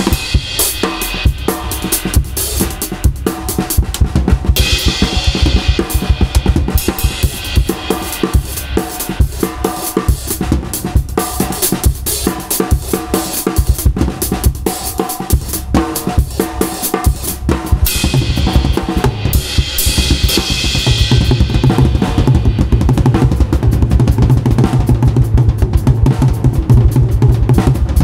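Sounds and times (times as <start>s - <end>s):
drum strokes: 0.0s - 28.0s.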